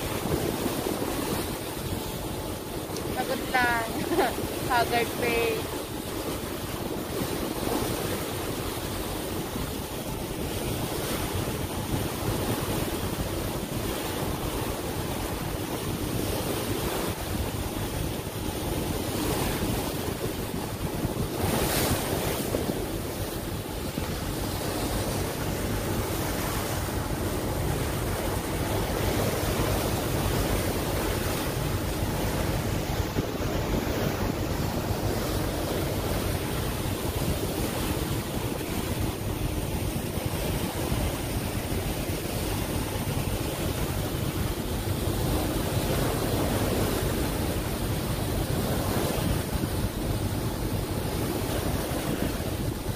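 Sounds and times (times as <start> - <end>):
sea water rushing past ferry: 0.0 - 52.9
wind buffeting microphone: 0.0 - 52.9.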